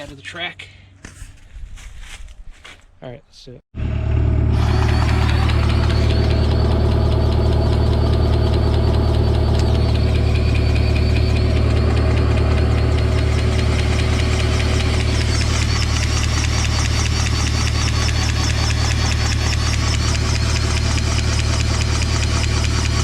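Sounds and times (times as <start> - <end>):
excavator diesel engine running: 3.8 - 23.0.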